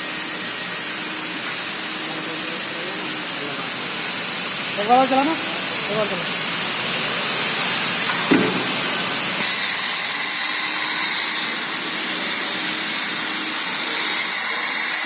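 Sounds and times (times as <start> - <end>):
vacuum machine air hiss: 0.0 - 15.0.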